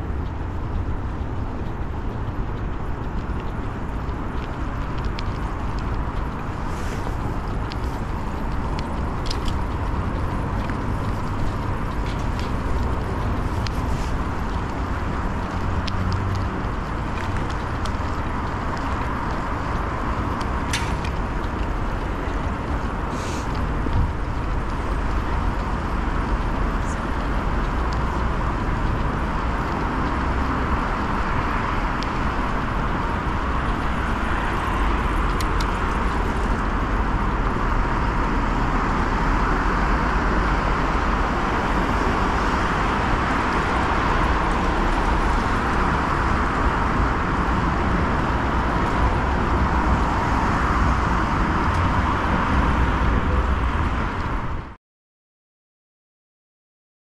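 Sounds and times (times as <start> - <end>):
city street traffic: 0.0 - 54.8.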